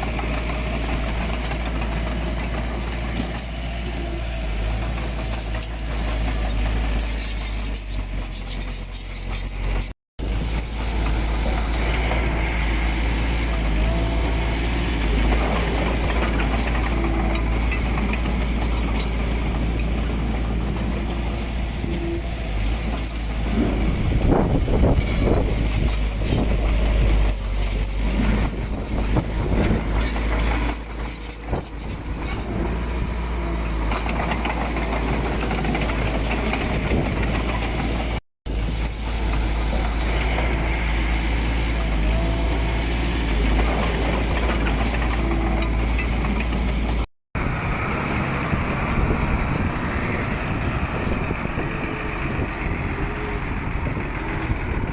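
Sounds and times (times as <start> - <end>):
heavy machinery diesel engine: 0.0 - 54.9.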